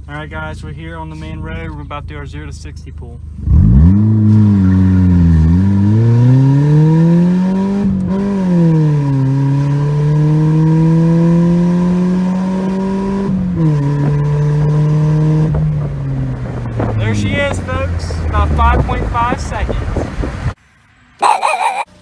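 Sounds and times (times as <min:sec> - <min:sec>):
car engine accelerating hard: 0:00.0 - 0:20.6.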